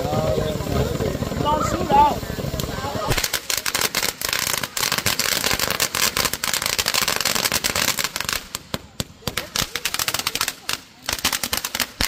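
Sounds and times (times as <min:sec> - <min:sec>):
firework crackling pops and snaps: 0:00.0 - 0:12.0.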